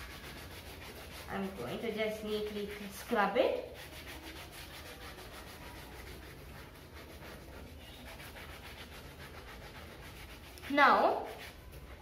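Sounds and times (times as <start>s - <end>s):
scouring pad scrubbing: 0.0s - 12.0s.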